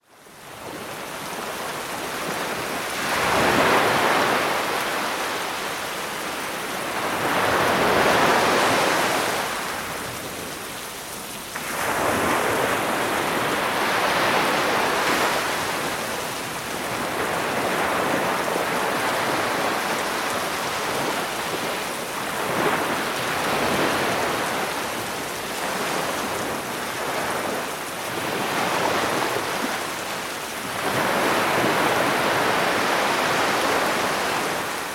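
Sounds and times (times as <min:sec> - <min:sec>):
sea waves breaking on beach: 0:00.2 - 0:34.9.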